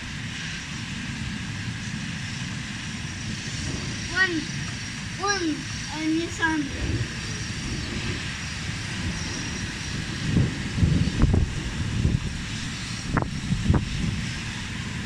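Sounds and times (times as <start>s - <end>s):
storm wind: 0.0s - 15.0s
passing traffic rumble: 0.9s - 15.0s.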